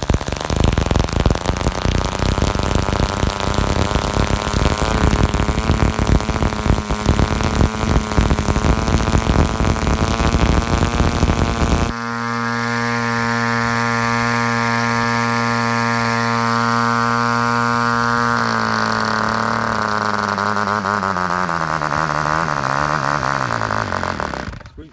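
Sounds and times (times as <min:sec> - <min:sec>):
model engine buzzing: 0:00.0 - 0:24.9.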